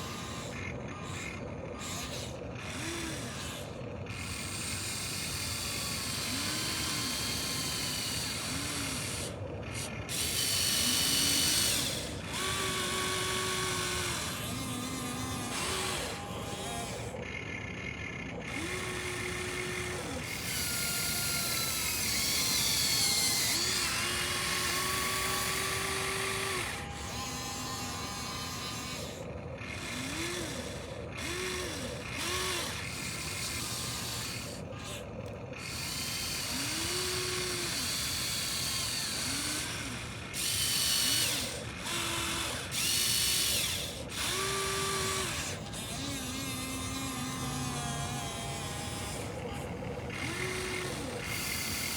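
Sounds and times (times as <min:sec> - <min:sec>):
small electric motors whining: 0:00.0 - 0:51.9.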